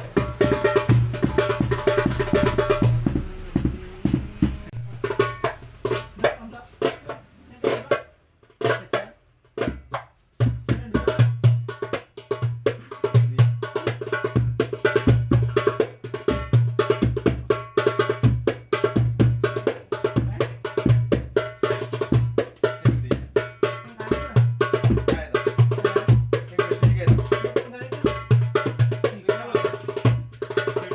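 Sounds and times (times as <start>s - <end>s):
hand drum rhythm: 0.0s - 30.9s.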